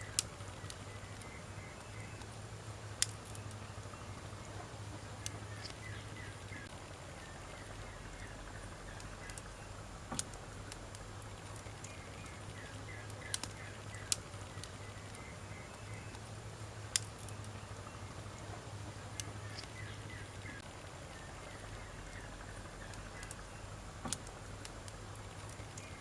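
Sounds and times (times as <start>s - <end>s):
campfire hissing: 0.0s - 26.0s
fire crackling pops: 0.0s - 26.0s.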